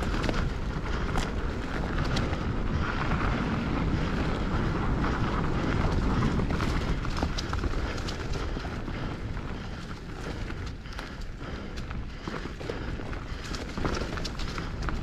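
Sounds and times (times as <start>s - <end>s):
wind noise on microphone: 0.0s - 12.2s
bike rattles and clicks: 0.0s - 15.0s
bike tyres rolling over dirt: 0.0s - 15.0s.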